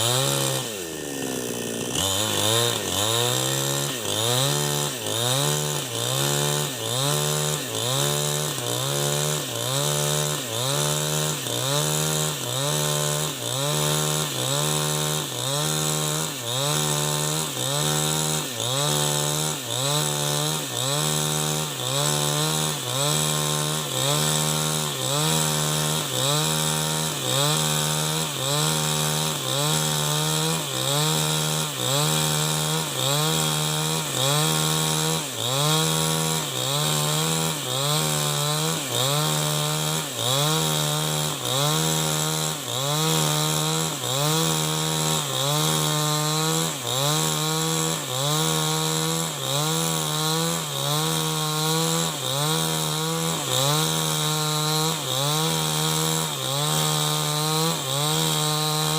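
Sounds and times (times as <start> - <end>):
chainsaw cutting through log: 0.0 - 58.9.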